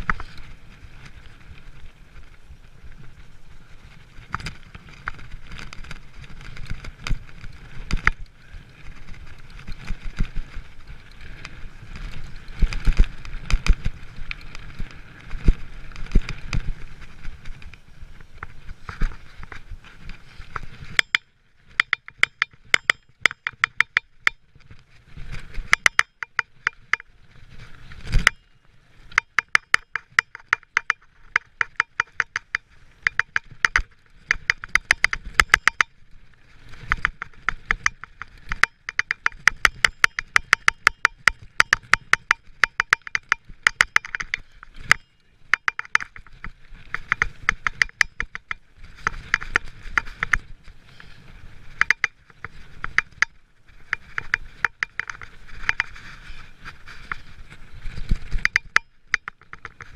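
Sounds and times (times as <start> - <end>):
bike freehub ticking: 0.0 - 59.9.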